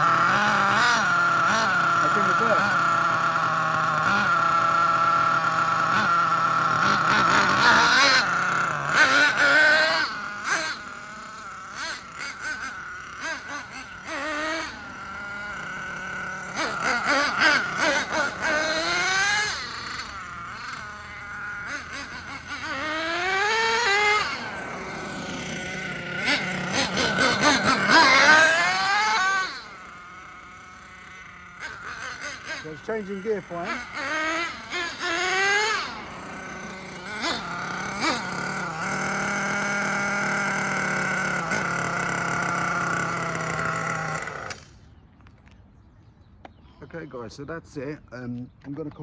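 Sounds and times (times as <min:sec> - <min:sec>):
model truck engine revving: 0:00.0 - 0:45.1.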